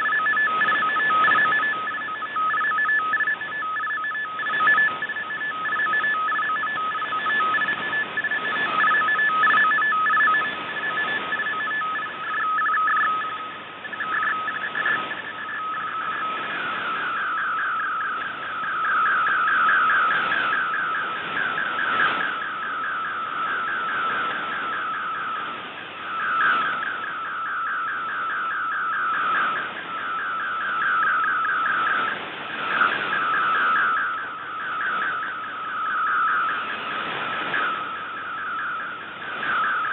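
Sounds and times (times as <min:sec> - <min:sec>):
warbling data signal: 0:00.0 - 0:39.9.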